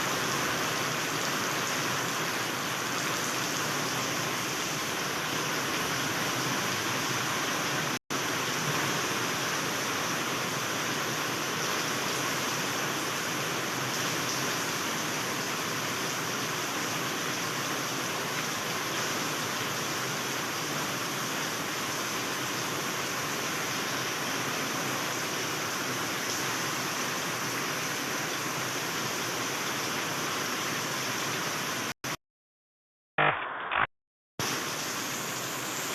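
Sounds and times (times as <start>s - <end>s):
heavy rain pouring: 0.0s - 31.9s, 34.4s - 35.9s.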